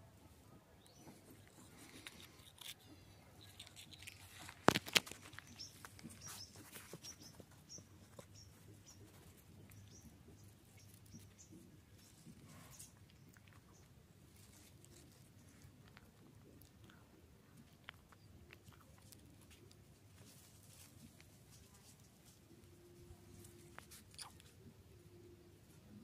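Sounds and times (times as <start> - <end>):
small clicks and rustles: 1.0 - 22.7.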